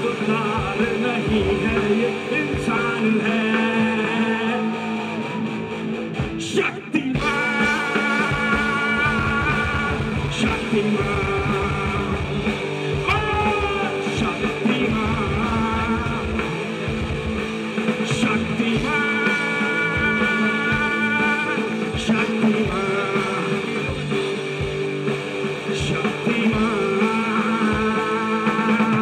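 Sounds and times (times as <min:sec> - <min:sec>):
man singing: 0:00.0 - 0:05.4, 0:06.2 - 0:29.0
live rock band playing: 0:00.0 - 0:29.0.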